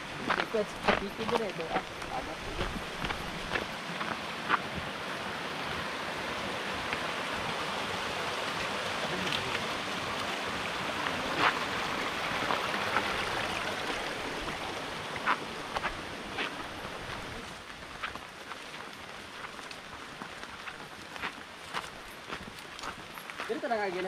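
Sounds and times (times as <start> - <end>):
stream water flowing: 0.0 - 24.0.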